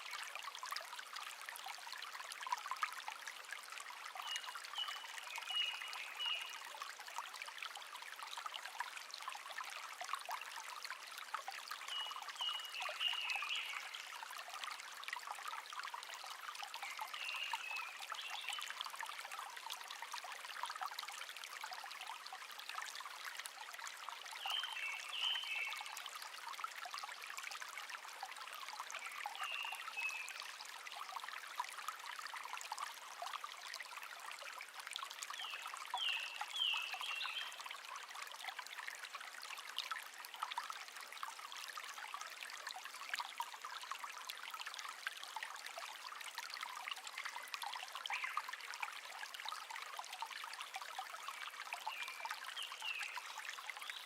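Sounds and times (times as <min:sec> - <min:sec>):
brook trickling and babbling: 0:00.0 - 0:54.0.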